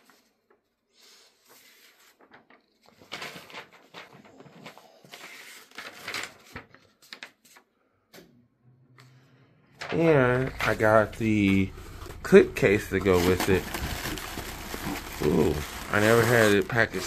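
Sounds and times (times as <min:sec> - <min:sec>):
paper and cardboard crinkling: 0:00.0 - 0:07.7, 0:09.8 - 0:17.0.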